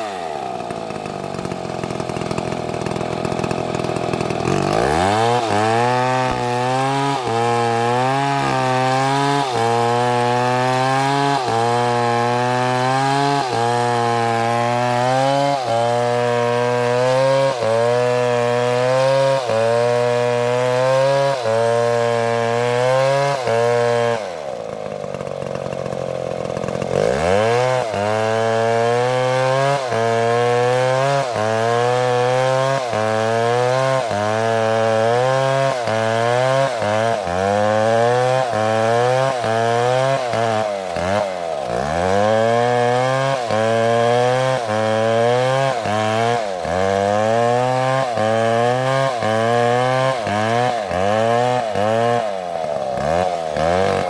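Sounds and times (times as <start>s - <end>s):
chainsaw cutting through wood: 0.0s - 54.0s.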